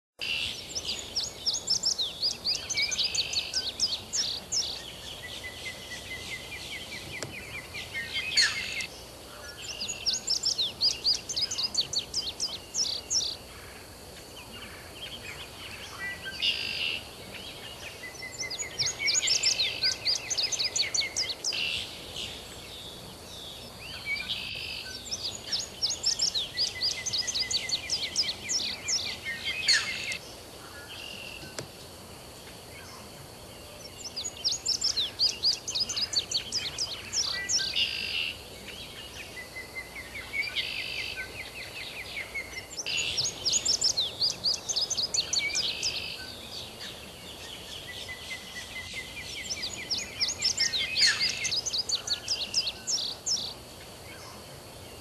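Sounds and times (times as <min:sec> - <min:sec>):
low background hiss: 0:00.2 - 0:55.0
songbird chirping: 0:00.2 - 0:55.0.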